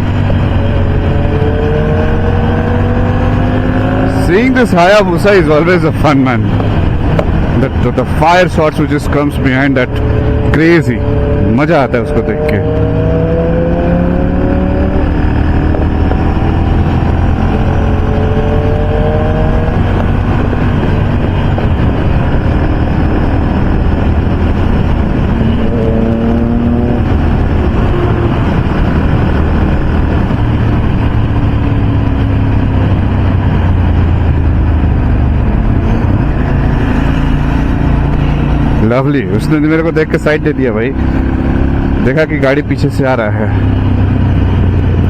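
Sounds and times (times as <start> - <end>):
wind rushing: 0.0 - 42.7
motorcycle engine roar: 0.0 - 45.0.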